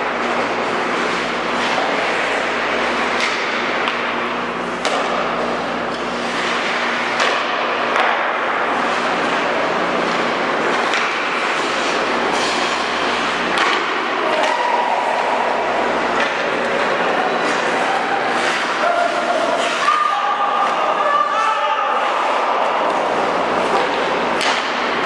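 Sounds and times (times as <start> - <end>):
steady low hum: 0.0 - 19.8, 21.9 - 25.0
skates scraping ice: 0.2 - 4.0, 4.7 - 25.0
hockey sticks clacking on puck: 0.2 - 4.1, 4.8 - 25.0
pucks knocking off boards: 0.2 - 21.0, 22.0 - 25.0.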